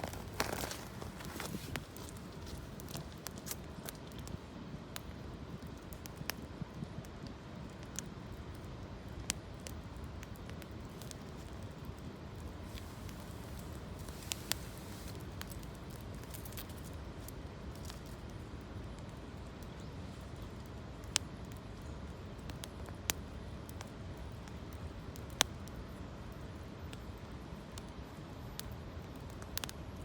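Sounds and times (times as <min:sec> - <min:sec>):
fire crackling pops: 0:00.0 - 0:28.0, 0:28.6 - 0:30.0
campfire burning: 0:00.0 - 0:30.0.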